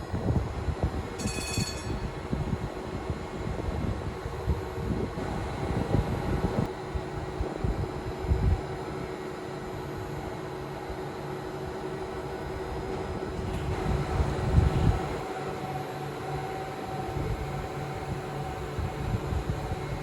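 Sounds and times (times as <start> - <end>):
tram electrical hum: 0.0 - 20.0.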